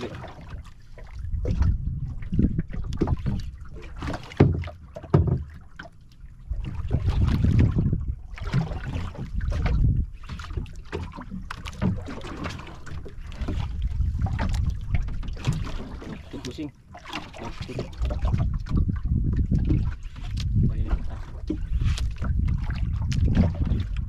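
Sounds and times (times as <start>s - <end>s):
wind rumbling on microphone: 0.0s - 5.4s, 6.4s - 16.7s, 17.4s - 24.0s
water splashing against boat hull: 0.0s - 24.0s.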